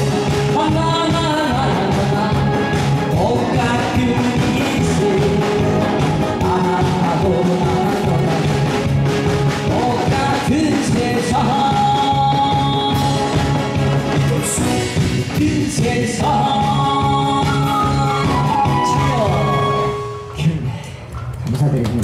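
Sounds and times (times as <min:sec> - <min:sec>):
amplified backing music with beat: 0:00.0 - 0:20.4
man singing: 0:00.0 - 0:20.5.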